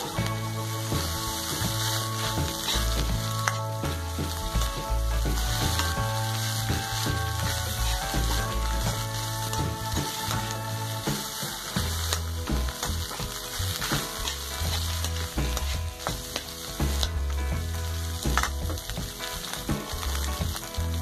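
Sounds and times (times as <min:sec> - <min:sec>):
rice sizzling in a wok: 0:00.0 - 0:21.0.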